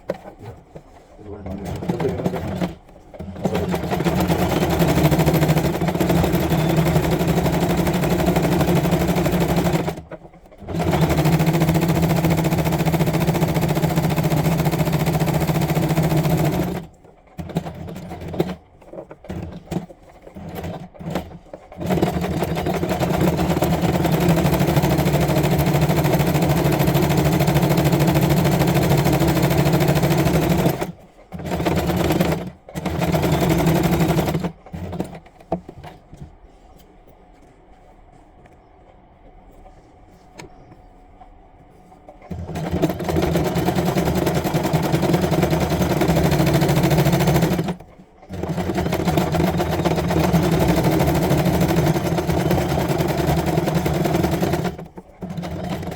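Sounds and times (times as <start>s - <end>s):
sewing machine running: 1.3s - 18.6s, 19.2s - 35.3s, 42.3s - 55.9s.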